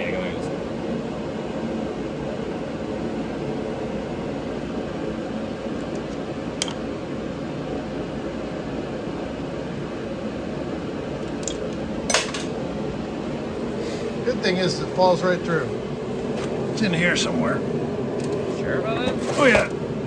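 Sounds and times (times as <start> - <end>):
fan whirring: 0.0 - 20.0.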